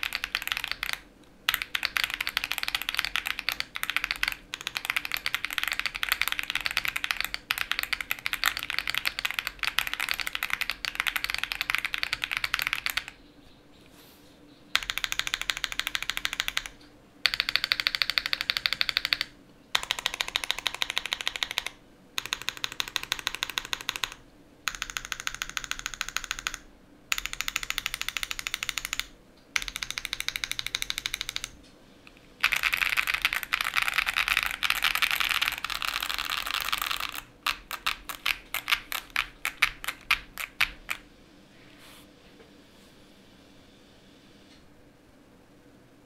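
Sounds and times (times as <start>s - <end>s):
mechanical keyboard typing: 0.0s - 13.2s, 14.8s - 31.6s, 32.4s - 41.0s.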